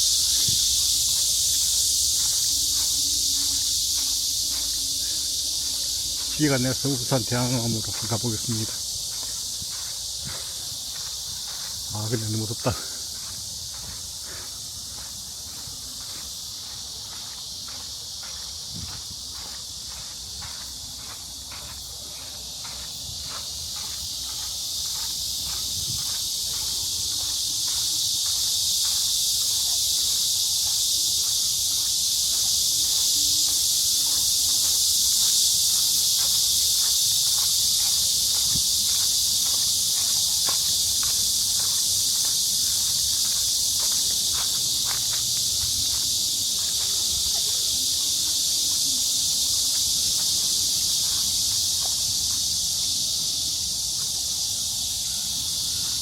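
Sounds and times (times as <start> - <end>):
cicadas buzzing: 0.0 - 56.0
footsteps walking: 0.0 - 56.0.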